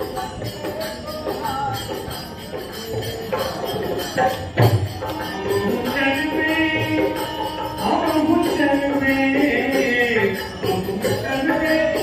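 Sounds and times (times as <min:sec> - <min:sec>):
jingling percussion: 0:00.0 - 0:12.0.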